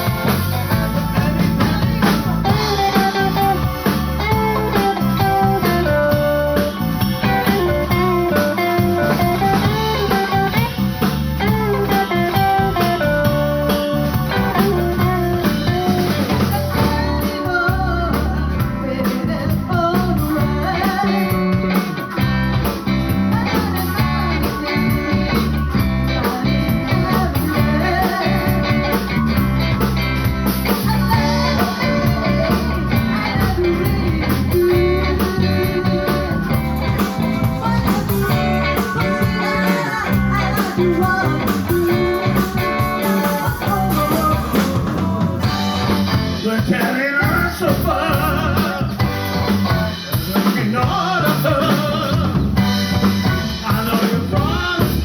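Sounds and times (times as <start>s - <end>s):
person singing: 0.0s - 29.3s, 30.6s - 52.7s, 53.3s - 55.0s
bass guitar: 0.0s - 55.0s
drum kit: 0.0s - 55.0s
guitar: 0.0s - 55.0s.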